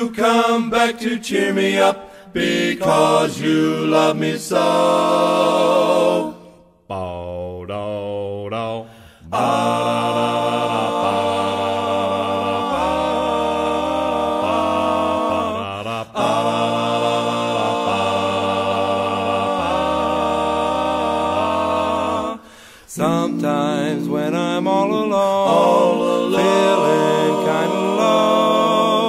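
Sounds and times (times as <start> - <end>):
male vocal quartet singing a cappella: 0.0 - 29.0.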